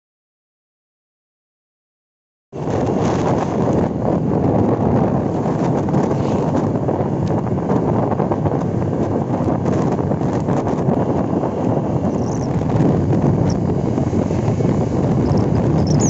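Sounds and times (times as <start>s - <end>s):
wind buffeting microphone: 2.5s - 16.0s.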